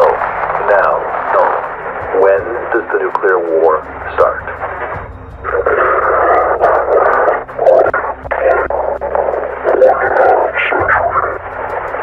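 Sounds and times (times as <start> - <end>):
distorted radio voice speaking: 0.0 - 1.6, 2.2 - 4.6, 5.5 - 11.4
low hum: 0.0 - 12.0.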